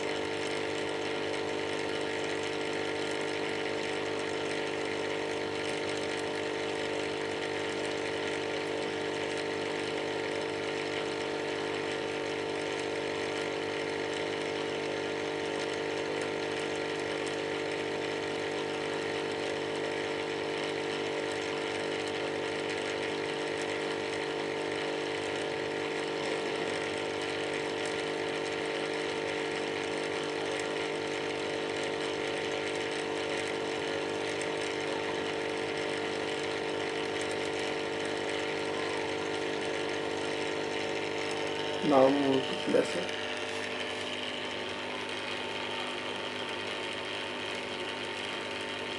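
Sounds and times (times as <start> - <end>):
aquarium air pump humming: 0.0 - 48.9.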